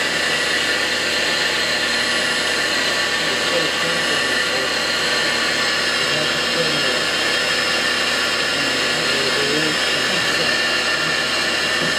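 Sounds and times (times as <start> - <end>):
lathe machine running: 0.0 - 11.9.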